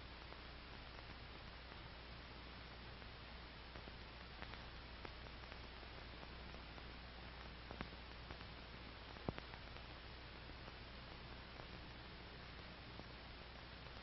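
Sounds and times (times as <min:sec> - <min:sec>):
film soundtrack hiss and hum: 0:00.0 - 0:14.0.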